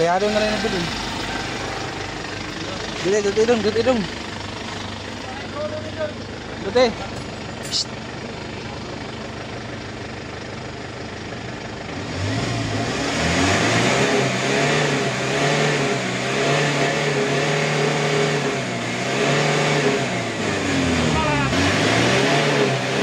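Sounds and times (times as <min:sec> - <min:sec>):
diesel engine idling and revving: 0:00.0 - 0:23.0.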